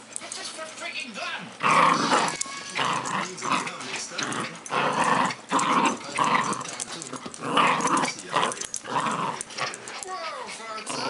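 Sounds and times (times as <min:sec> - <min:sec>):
puppy growling: 0:01.5 - 0:11.0.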